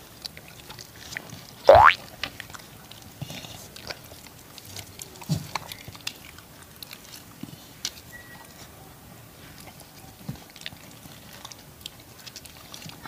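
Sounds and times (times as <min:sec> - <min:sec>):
dogs chewing food: 0:00.0 - 0:13.0.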